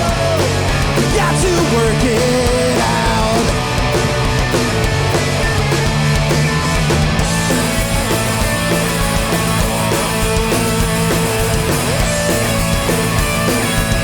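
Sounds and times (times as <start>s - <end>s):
punk band playing live: 0.0s - 14.0s.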